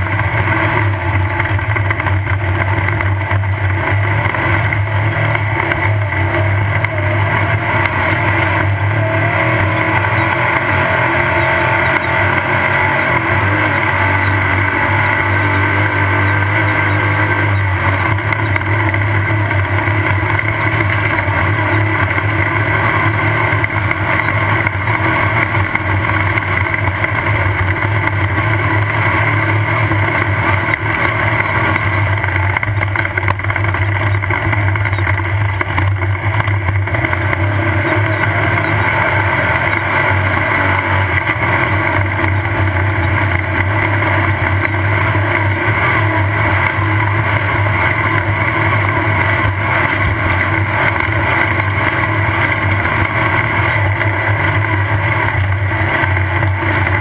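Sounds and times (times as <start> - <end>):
knocks and rattles over rough ground: 0.0 - 57.0
race car engine running hard: 0.0 - 57.0.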